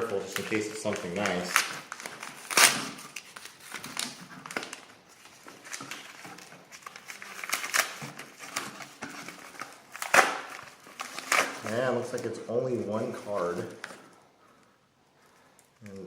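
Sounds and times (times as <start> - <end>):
packing material crinkling: 0.0 - 14.2.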